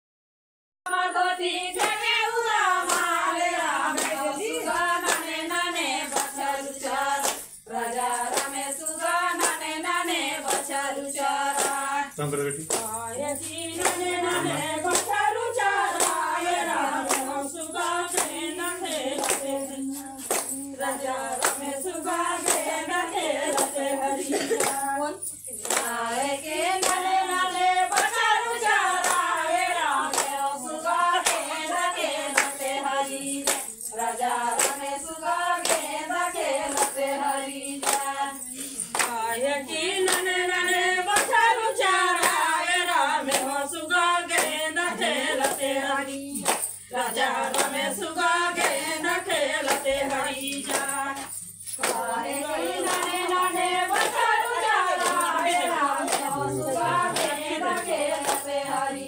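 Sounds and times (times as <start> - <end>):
women singing folk song: 0.9 - 59.0
hand claps: 1.8 - 59.0.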